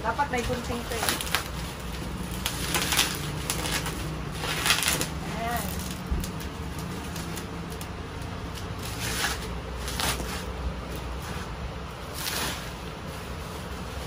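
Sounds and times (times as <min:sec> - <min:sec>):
bubble wrap rustling: 0:00.0 - 0:14.0.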